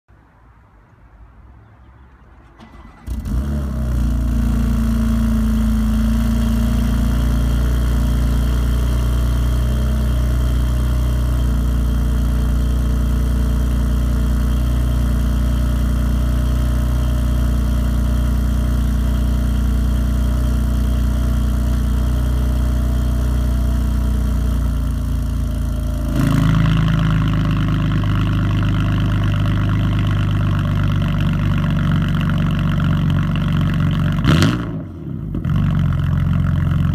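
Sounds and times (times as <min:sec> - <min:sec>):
car engine starting and idling: 0:01.9 - 0:36.9.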